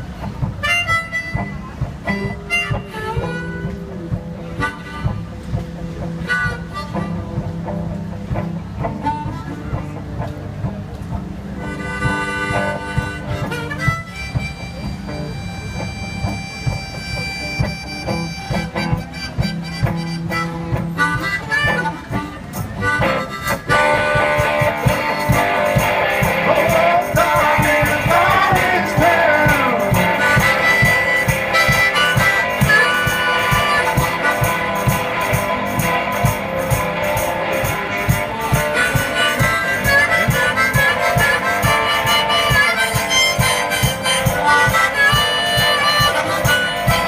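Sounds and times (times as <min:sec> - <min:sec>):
harmonica: 0:00.0 - 0:07.5, 0:08.8 - 0:10.0, 0:11.5 - 0:47.0
guitar accompaniment: 0:00.0 - 0:47.0
steady beat: 0:00.0 - 0:47.0.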